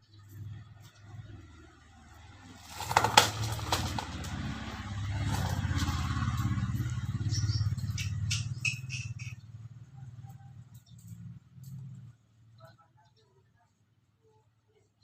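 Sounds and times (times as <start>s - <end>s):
vehicle engine running: 0.0s - 13.2s.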